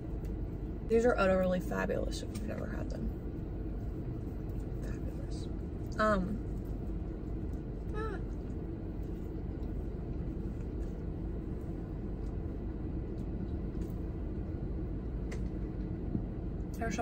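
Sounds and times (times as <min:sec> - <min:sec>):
low rumble inside car: 0:00.0 - 0:17.0.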